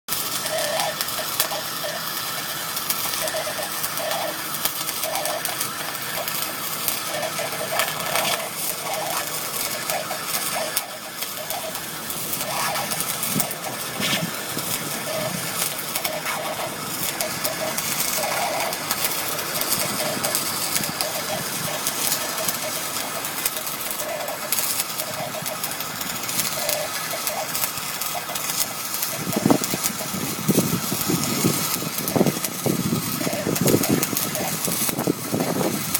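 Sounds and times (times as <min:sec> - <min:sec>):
welding arc crackling and sizzling: 0:00.0 - 0:35.9
fine spitting clicks: 0:00.4 - 0:35.9.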